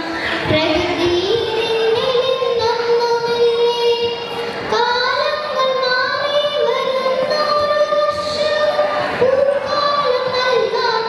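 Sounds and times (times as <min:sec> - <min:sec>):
girl singing into a microphone: 0:00.0 - 0:11.0.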